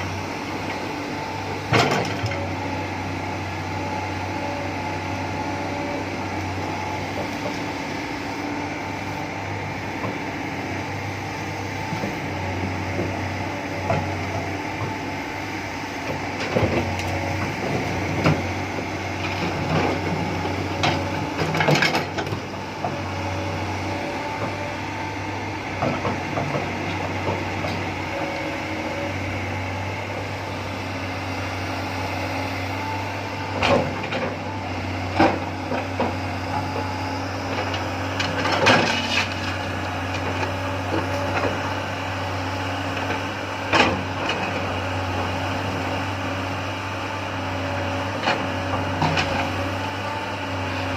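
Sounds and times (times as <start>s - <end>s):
excavator engine humming: 0.0s - 50.9s.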